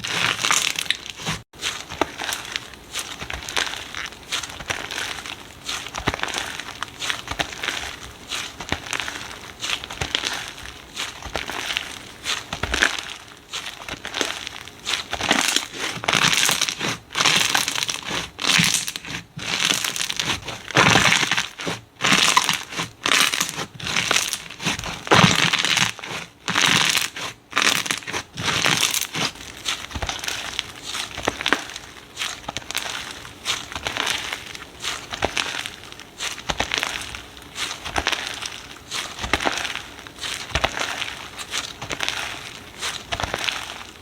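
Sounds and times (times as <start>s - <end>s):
slime squishing and popping: 0.0s - 44.0s.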